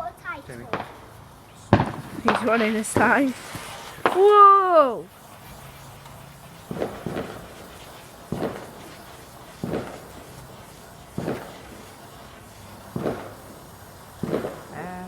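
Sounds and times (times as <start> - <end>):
firework sputtering pops: 0.0 - 15.0.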